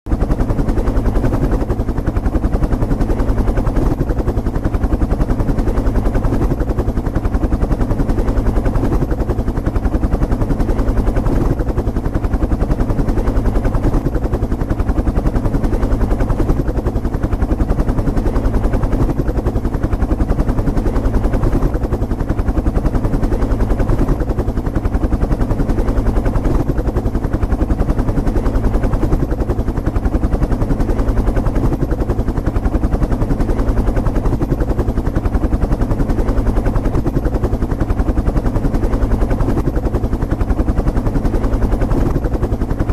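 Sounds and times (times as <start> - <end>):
helicopter rotor and engine: 0.1 - 42.9.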